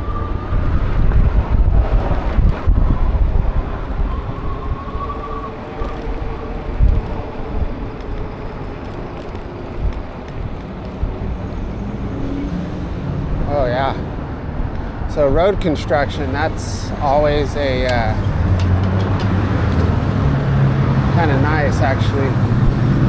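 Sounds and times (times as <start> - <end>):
road and traffic noise: 0.0 - 23.0
wind buffeting microphone: 0.0 - 23.0.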